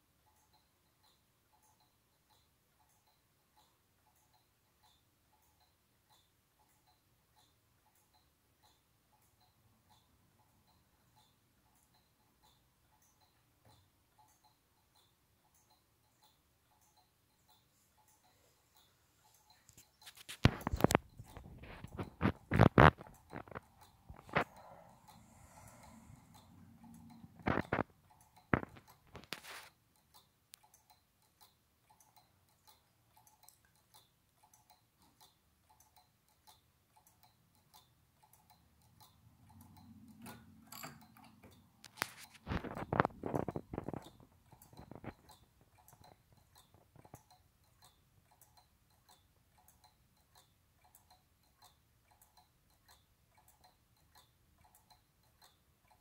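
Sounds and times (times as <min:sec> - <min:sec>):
pendulum clock ticking: 0:00.0 - 0:56.0.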